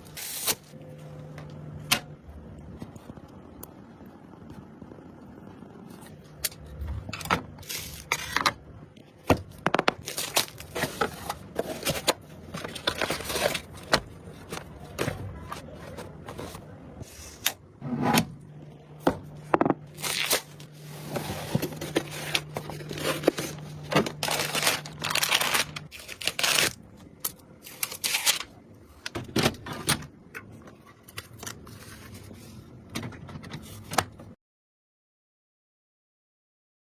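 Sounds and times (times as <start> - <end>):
steady low hum: 0.0 - 34.3.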